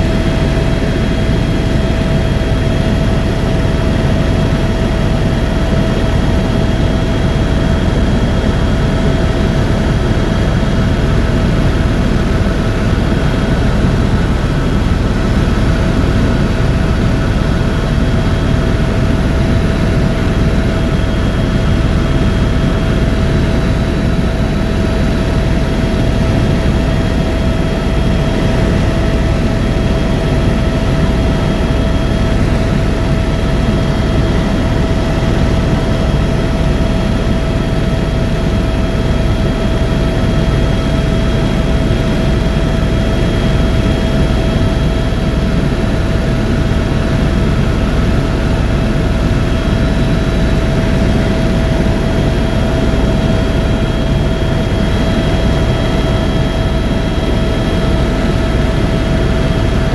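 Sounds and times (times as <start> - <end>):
helicopter engine and rotor noise: 0.0 - 59.9
high-pitched turbine whine: 0.0 - 59.9.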